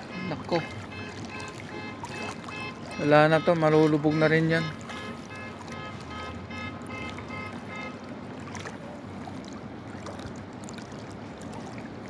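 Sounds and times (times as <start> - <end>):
floodwater sloshing around wading person: 0.0 - 12.0.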